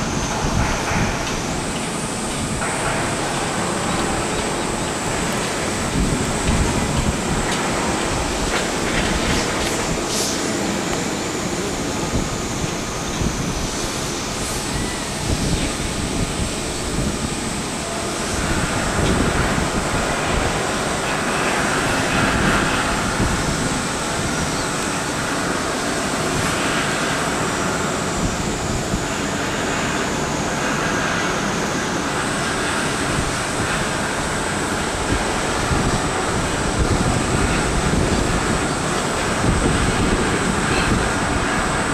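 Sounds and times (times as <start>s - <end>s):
thin high whine: 0.0s - 41.9s
wind buffeting microphone: 0.0s - 41.9s.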